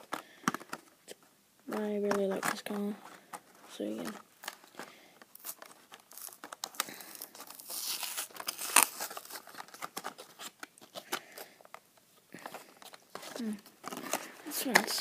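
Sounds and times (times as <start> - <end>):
plastic cracking: 0.0 - 15.0
plastic packaging crinkling: 0.0 - 15.0.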